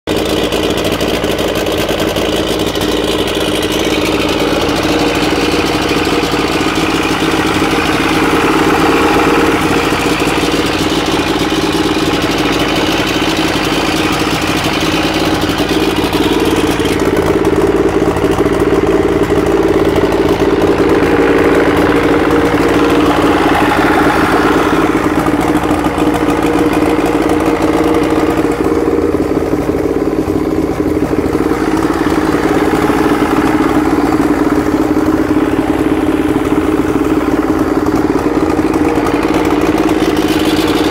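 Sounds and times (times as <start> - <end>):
outboard motor idling: 0.0 - 40.9.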